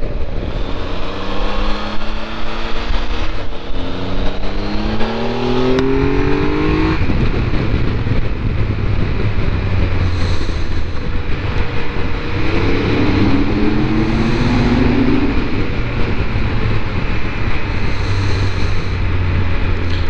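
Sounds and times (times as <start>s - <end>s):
motorcycle engine revving: 0.0s - 20.0s
wind noise: 0.0s - 20.0s.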